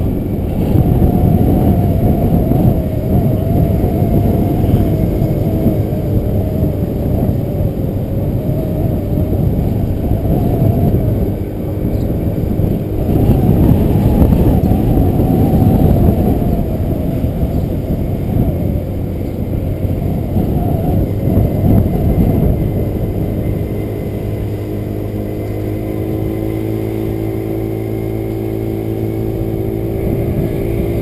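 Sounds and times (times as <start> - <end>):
scooter engine running: 0.0 - 31.0
wind noise on microphone: 0.0 - 31.0.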